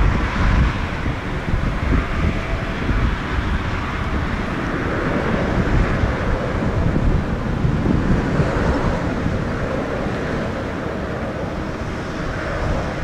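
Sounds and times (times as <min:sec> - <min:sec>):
jet engine noise: 0:00.0 - 0:13.0
wind buffeting the microphone: 0:00.0 - 0:13.0.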